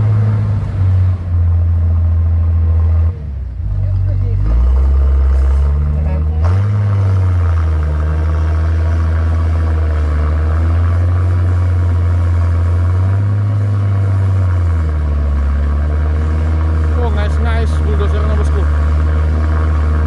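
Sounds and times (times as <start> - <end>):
diesel engine revving: 0.0 - 20.0.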